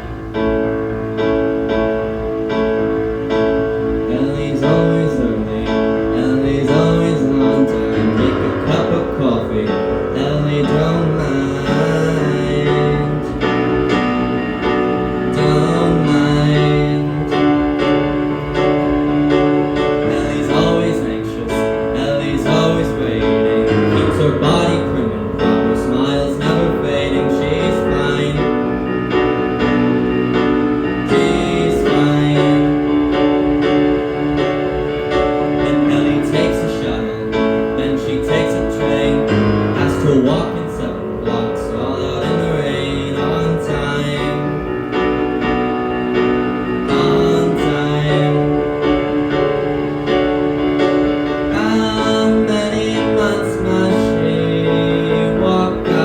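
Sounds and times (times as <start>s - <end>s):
piano chords: 0.0s - 56.0s.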